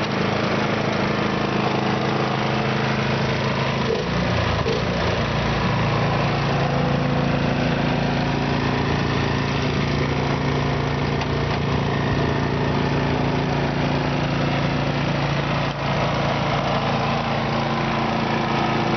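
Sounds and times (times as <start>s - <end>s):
snow blower engine running: 0.0s - 18.9s.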